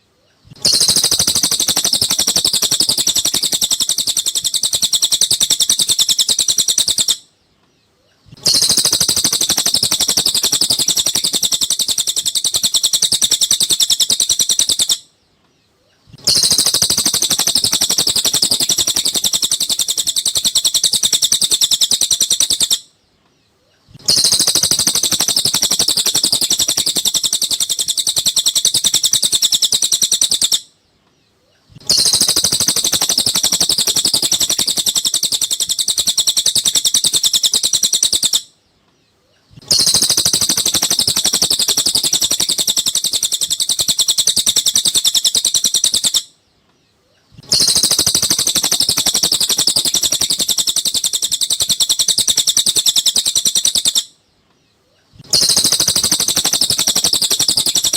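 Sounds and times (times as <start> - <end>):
bird rapid high chattering: 0.4 - 7.3, 8.3 - 15.1, 16.1 - 22.9, 23.9 - 30.7, 31.7 - 38.5, 39.5 - 46.3, 47.3 - 54.2, 55.2 - 57.9.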